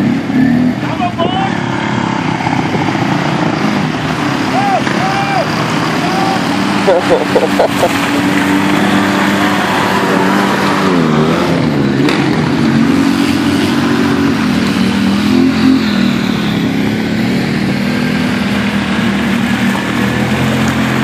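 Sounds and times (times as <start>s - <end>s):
quad bike engines revving: 0.0s - 21.0s.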